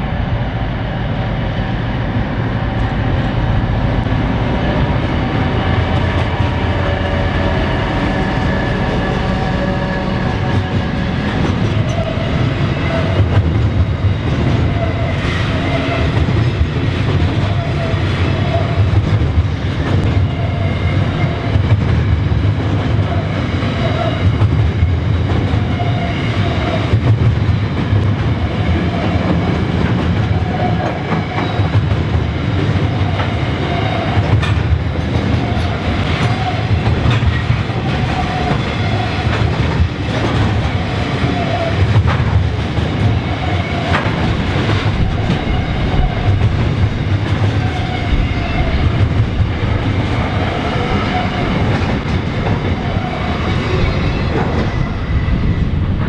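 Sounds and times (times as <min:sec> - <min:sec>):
train wagons rumbling past: 0:00.0 - 0:56.0.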